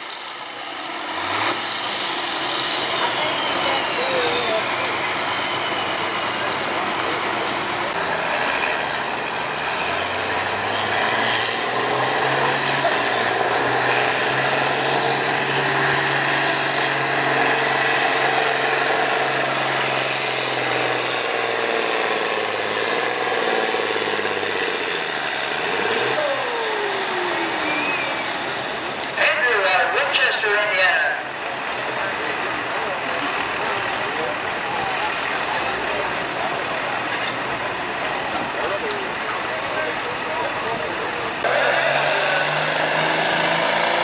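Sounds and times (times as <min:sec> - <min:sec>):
tractor engine under load: 0:00.0 - 0:44.0.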